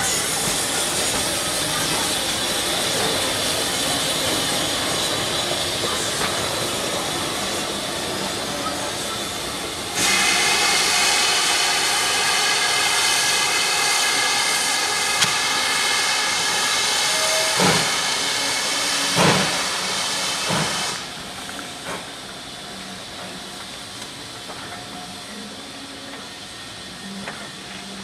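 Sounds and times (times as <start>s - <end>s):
steady hiss of steam: 0.0s - 28.0s
steam locomotive exhaust beats: 0.0s - 28.0s.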